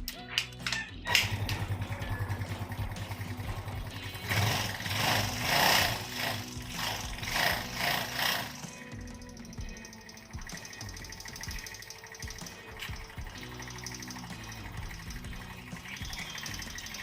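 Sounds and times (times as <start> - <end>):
scooter engine idling and revving: 1.0 - 17.0.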